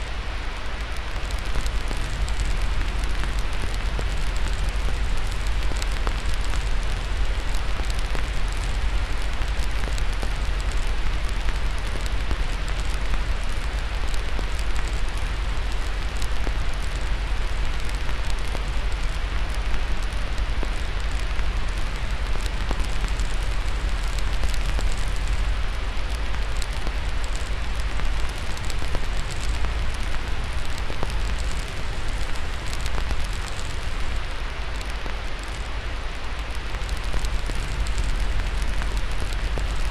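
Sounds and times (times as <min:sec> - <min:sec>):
fire crackling: 0:00.0 - 0:39.9
white noise with low rumble: 0:00.0 - 0:39.9.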